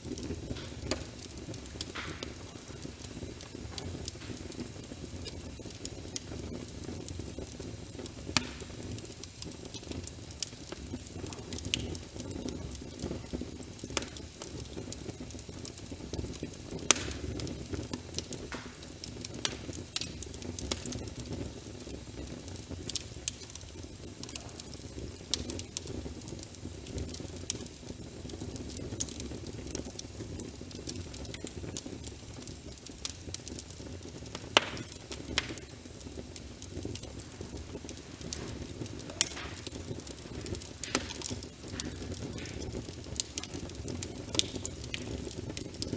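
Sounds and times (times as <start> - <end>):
wood fire crackling and popping: 0.0 - 45.9
rain: 8.2 - 45.9.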